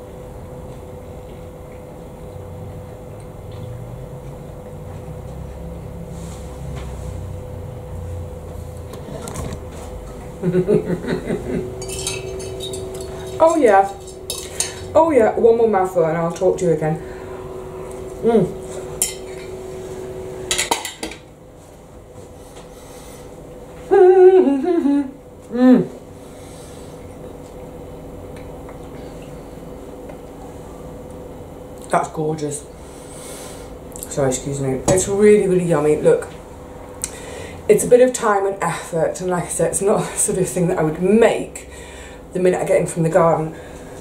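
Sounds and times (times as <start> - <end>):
low electrical hum: 0.0 - 44.0.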